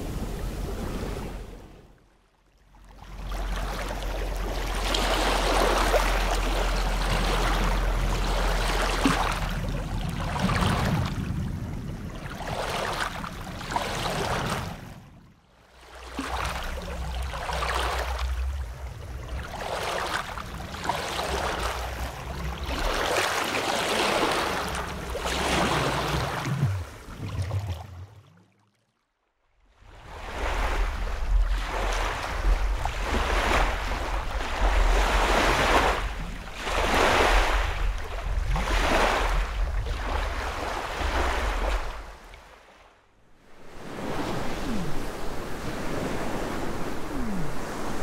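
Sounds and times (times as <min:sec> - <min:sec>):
ocean waves heard underwater: 0:00.0 - 0:48.0.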